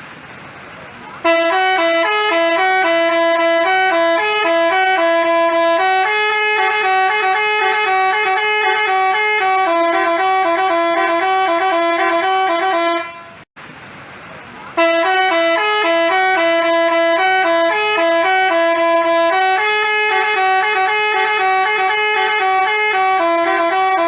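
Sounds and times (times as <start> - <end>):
musical bus horn playing a tune: 1.2 - 13.5, 14.7 - 24.0.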